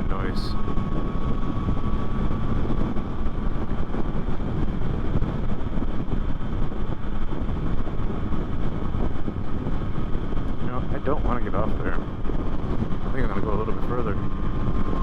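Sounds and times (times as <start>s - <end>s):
motorcycle engine and road rumble: 0.0s - 15.0s
wind buffeting microphone: 0.0s - 15.0s.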